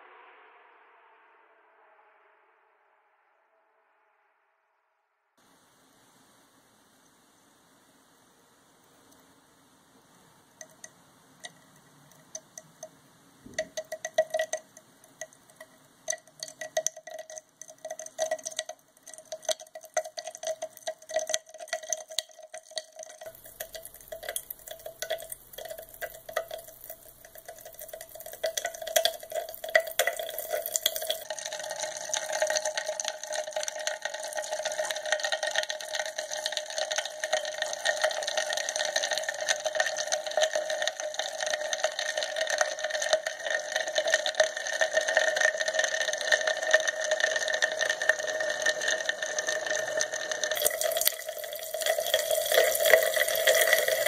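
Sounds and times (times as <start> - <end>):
chemical reaction popping and crackling: 8.7 - 54.0.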